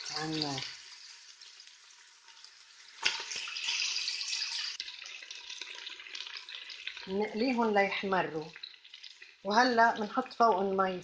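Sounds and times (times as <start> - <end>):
chicken sizzling in hot fat: 0.0 - 11.0.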